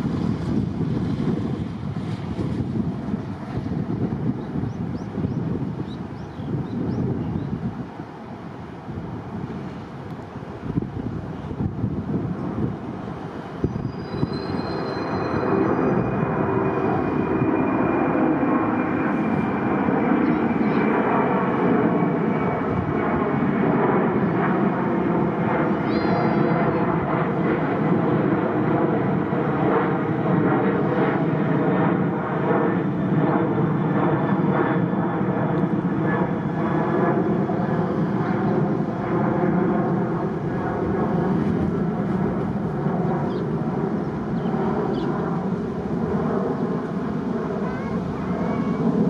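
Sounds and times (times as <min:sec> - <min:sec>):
jet engines roaring: 0:00.0 - 0:49.0.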